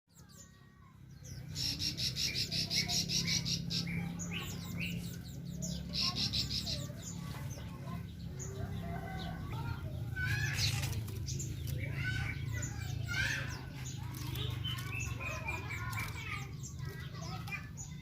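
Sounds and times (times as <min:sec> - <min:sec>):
high-pitched bird trills: 0:00.1 - 0:08.6, 0:09.5 - 0:18.0
small birds chirping: 0:00.1 - 0:18.0.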